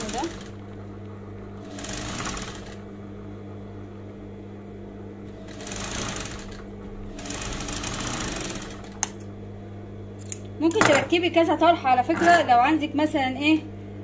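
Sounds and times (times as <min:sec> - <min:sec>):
motor hum: 0:00.0 - 0:14.0.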